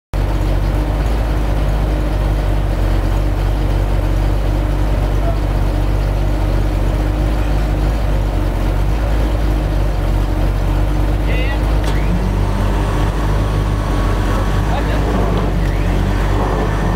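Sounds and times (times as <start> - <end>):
vehicle engine idling low: 0.1 - 16.9.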